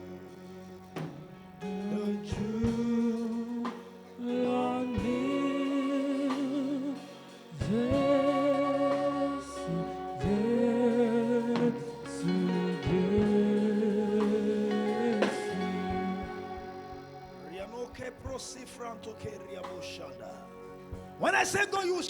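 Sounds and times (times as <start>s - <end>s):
person singing with vibrato: 0.0s - 17.7s
instrumental backing: 0.0s - 22.0s.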